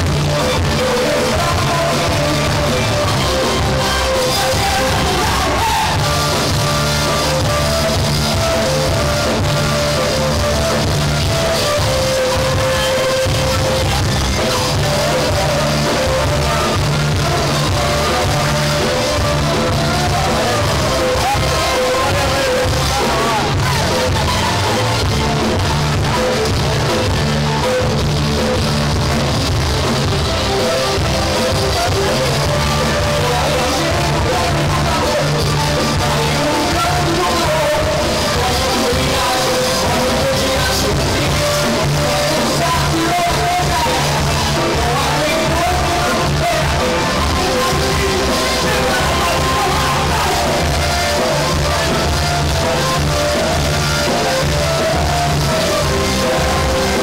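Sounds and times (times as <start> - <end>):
music with singing voice: 0.0 - 57.0.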